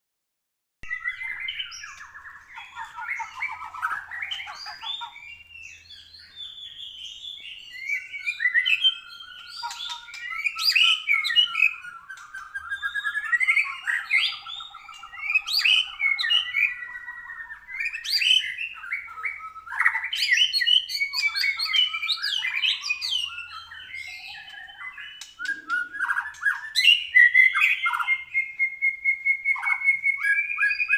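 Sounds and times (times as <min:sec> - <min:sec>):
bird singing whistles and trills: 0:00.8 - 0:30.9.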